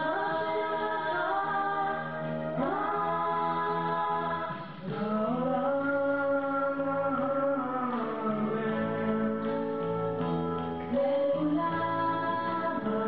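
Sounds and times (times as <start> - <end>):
boy and girl singing: 0.0 - 13.0.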